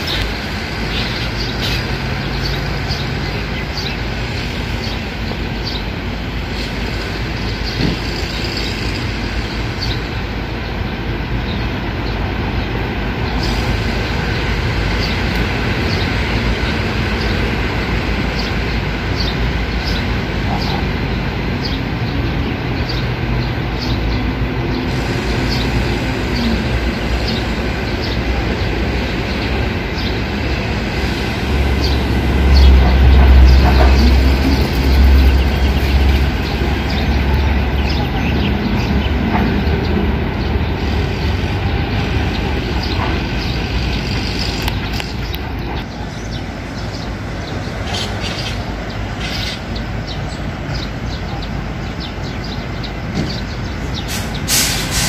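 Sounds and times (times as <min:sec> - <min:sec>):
loud rumbling background noise: 0:00.0 - 0:55.0.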